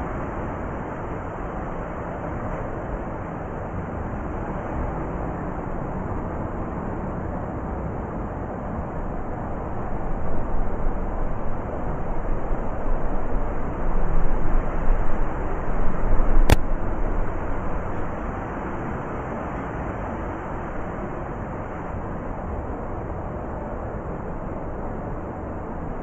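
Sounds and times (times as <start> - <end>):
blizzard wind roaring: 0.0 - 26.0.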